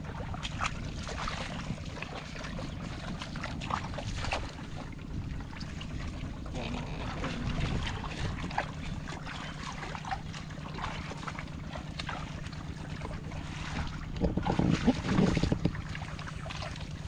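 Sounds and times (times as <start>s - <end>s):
splashes in muddy water: 0.0s - 17.0s
steady low hum: 0.0s - 17.0s
wind rumble on microphone: 0.0s - 17.0s.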